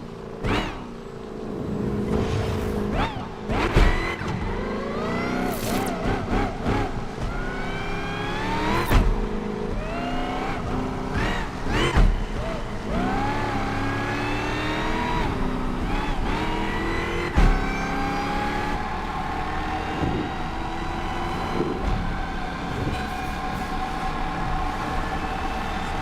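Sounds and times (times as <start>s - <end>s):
supercharged car accelerating: 0.0s - 26.0s.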